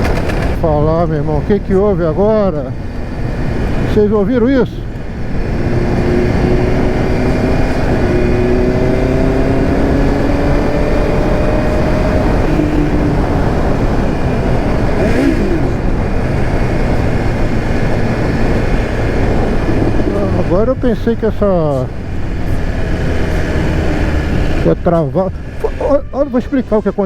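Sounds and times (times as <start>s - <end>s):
heavy wind rush: 0.0s - 27.0s
motorcycle engine running: 0.0s - 27.0s.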